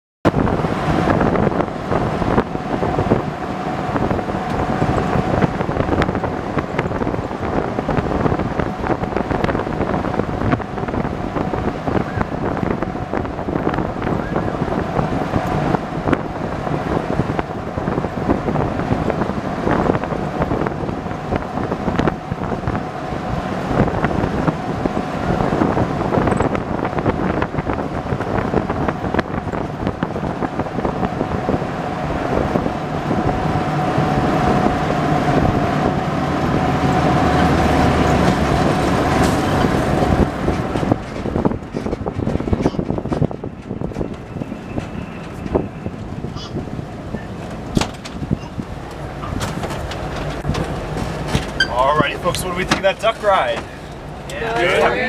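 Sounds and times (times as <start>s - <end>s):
road noise: 0.2s - 55.0s
vehicle engine running: 0.2s - 55.0s
wind noise: 0.2s - 55.0s.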